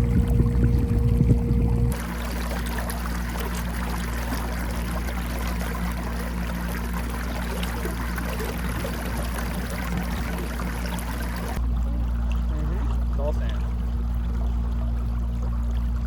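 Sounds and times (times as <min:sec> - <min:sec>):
water rushing along hull: 0:00.0 - 0:16.0.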